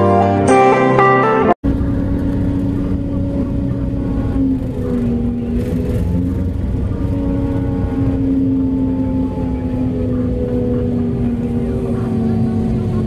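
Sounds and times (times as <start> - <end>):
diesel truck engine droning: 1.2 - 13.0.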